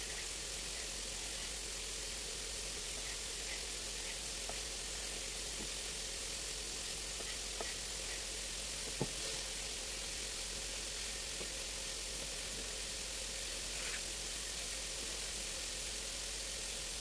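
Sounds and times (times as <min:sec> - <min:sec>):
food sizzling in frying pan: 0:00.0 - 0:17.0.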